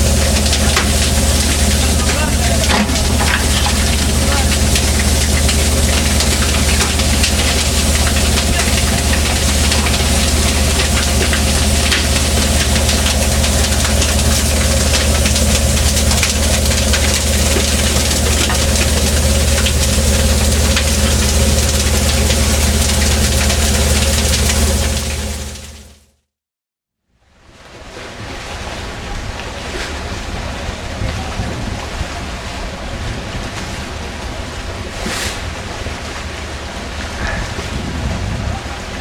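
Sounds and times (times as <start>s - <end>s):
boat engine running: 0.0s - 26.0s, 28.0s - 39.0s.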